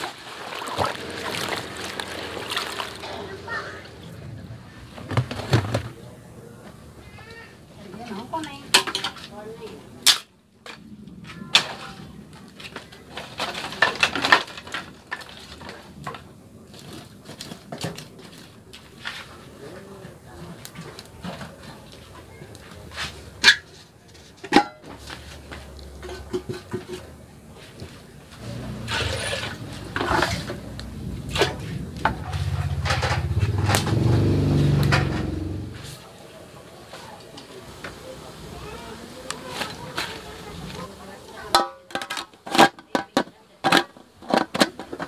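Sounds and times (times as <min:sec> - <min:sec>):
wood rustling and clattering: 0:00.0 - 0:06.9, 0:07.9 - 0:36.0, 0:39.4 - 0:45.0.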